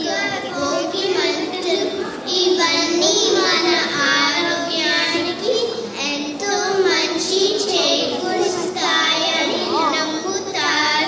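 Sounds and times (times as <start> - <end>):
children singing together: 0.0 - 11.0.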